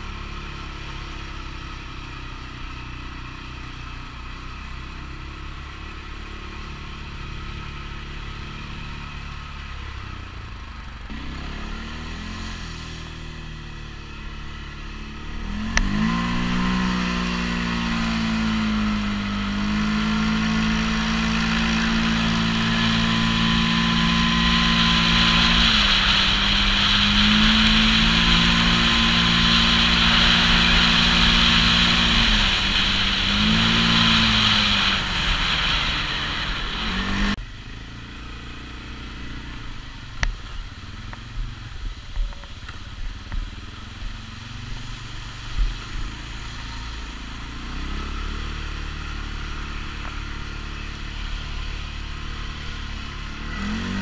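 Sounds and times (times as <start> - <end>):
atv engine running: 0.0 - 54.0
wind and road noise: 0.0 - 54.0.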